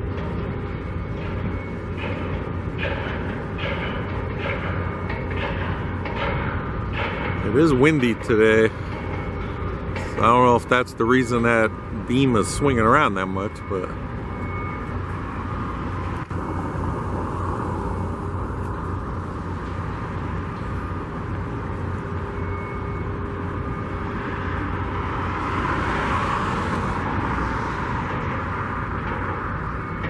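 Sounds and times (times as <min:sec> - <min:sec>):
distant vehicles and machinery rumble: 0:00.0 - 0:30.0.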